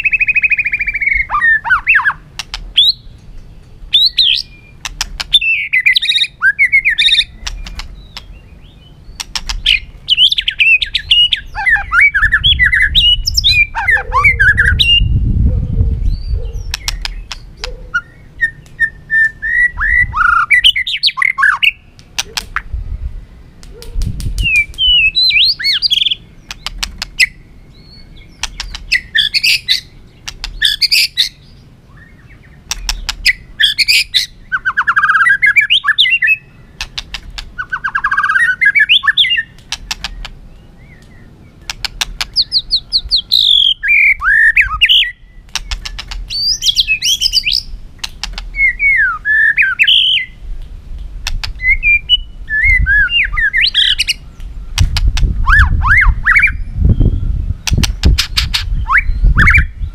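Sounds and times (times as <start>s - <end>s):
bird singing whistled phrases: 0.0s - 2.2s, 2.8s - 3.1s, 3.9s - 15.2s, 16.0s - 22.4s, 24.4s - 26.6s, 27.2s - 29.9s, 30.5s - 36.6s, 37.6s - 41.3s, 42.2s - 45.7s, 46.3s - 47.7s, 48.6s - 50.4s, 51.6s - 54.8s, 55.4s - 59.9s.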